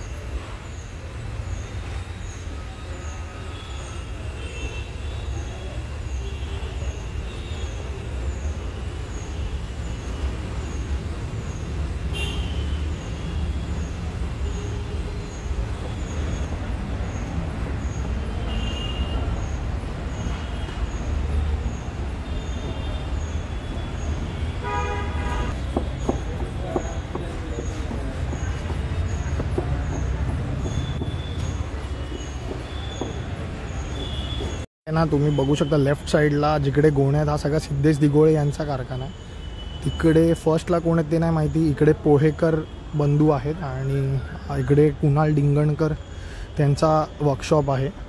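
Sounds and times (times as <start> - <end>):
rumble of passing vehicles: 0.0 - 48.0.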